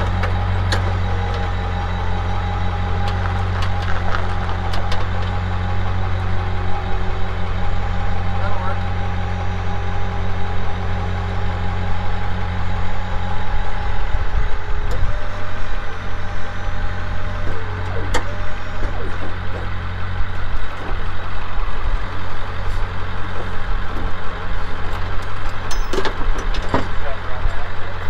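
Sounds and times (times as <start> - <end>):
high whine: 0.0 - 26.1
truck engine idling: 0.0 - 28.0.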